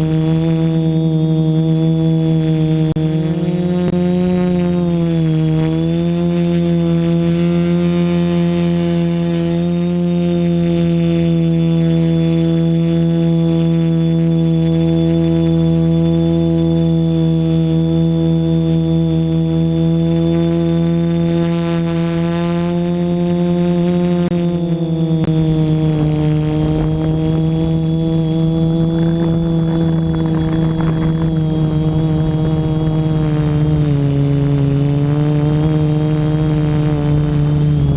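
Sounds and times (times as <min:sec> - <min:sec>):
drone motors humming: 0:00.0 - 0:37.9.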